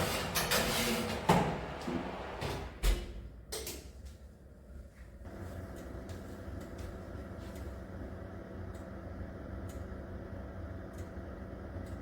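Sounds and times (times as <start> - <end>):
appliance humming: 0.0 - 3.4, 5.3 - 12.0.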